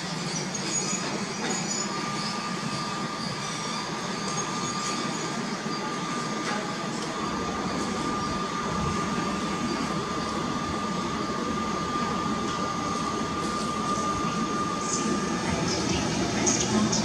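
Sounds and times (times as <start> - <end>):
high-pitched whine: 0.0 - 17.0
train running: 0.0 - 17.0.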